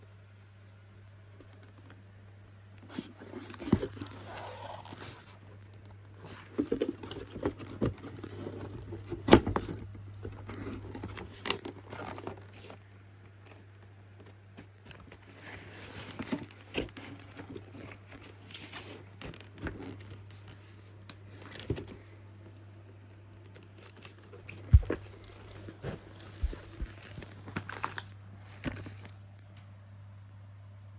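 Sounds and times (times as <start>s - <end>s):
packaging rustling and crinkling: 2.9s - 22.2s, 23.1s - 29.5s.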